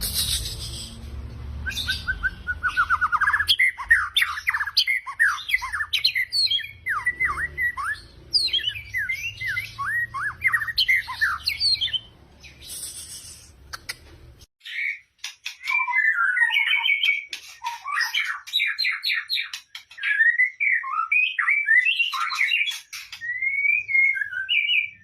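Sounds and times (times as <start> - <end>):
bird singing whistled notes: 1.6 - 13.4, 15.6 - 25.0.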